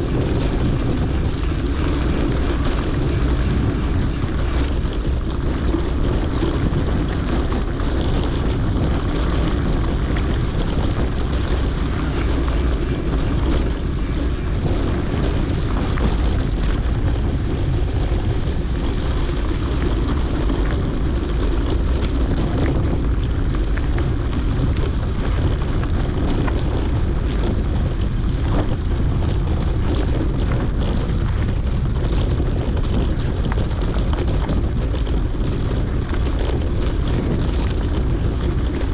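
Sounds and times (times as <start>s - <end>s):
bike rolling on gravel track: 0.0s - 38.9s
wind rushing over microphone: 0.0s - 38.9s.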